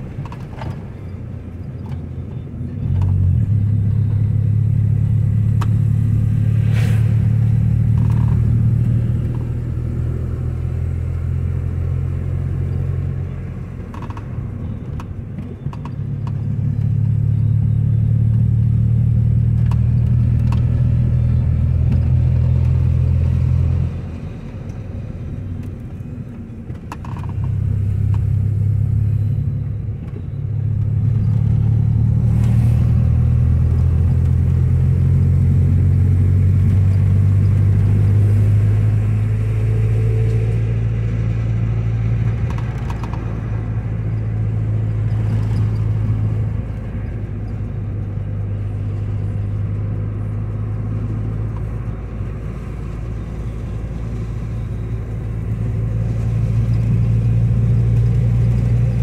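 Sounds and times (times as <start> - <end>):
car engine and road drone: 0.0 - 59.0.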